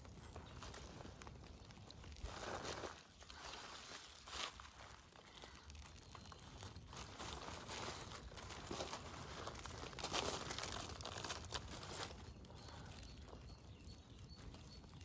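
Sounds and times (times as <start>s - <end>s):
dry leaves rustling: 0.0s - 13.4s
soil and roots tearing: 0.0s - 15.0s.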